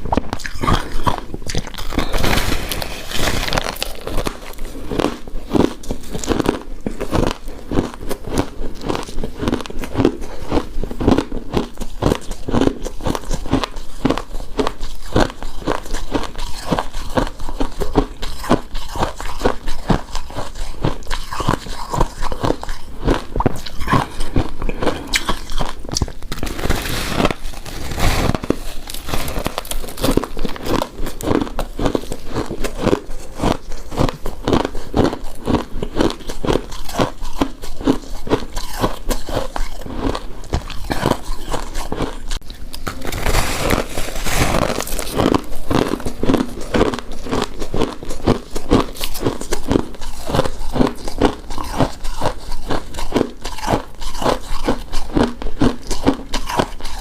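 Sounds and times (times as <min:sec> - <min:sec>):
chewing with mouth clicks: 0:00.0 - 0:26.7, 0:28.4 - 0:43.1, 0:44.6 - 0:57.0.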